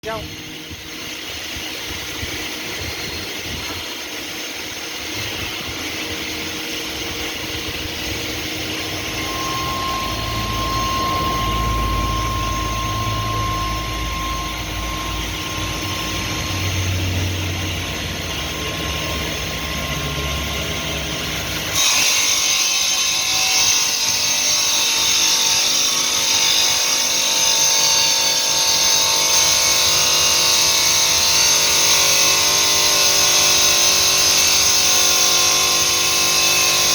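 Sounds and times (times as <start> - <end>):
stone-cutting machine running: 0.0 - 36.9.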